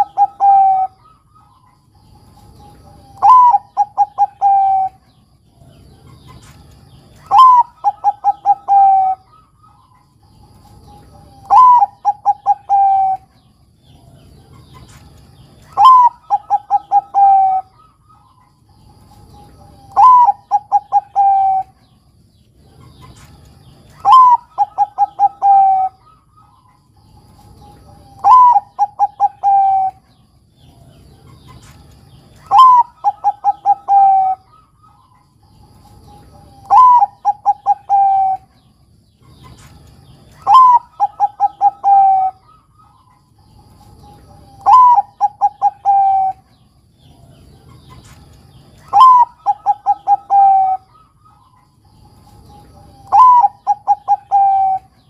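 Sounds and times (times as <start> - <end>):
dove cooing: 0.0 - 22.0, 22.6 - 55.0.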